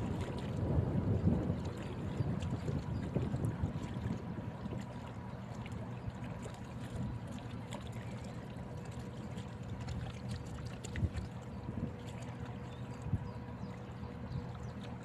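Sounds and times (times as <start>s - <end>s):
low steady rumble: 0.0s - 15.0s
water splashing and trickling: 0.0s - 15.0s.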